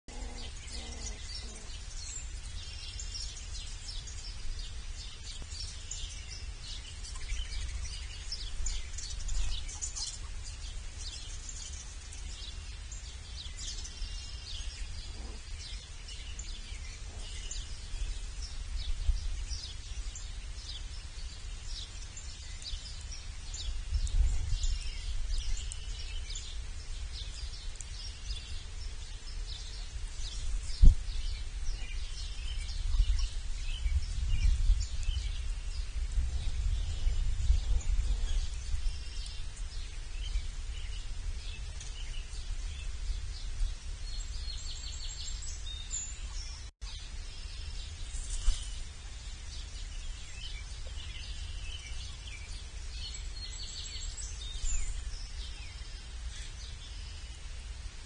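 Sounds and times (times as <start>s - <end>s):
small birds chirping: 0.0s - 58.0s
steady low rumble: 0.1s - 56.5s.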